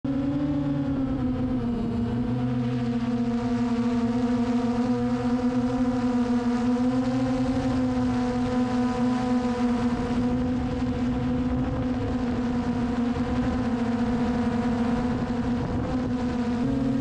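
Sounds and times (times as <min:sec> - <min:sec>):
drone propellers humming: 0:00.1 - 0:17.0.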